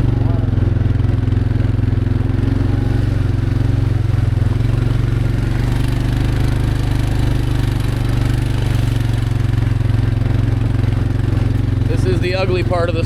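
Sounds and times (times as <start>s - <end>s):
small vehicle engine running: 0.0s - 13.0s.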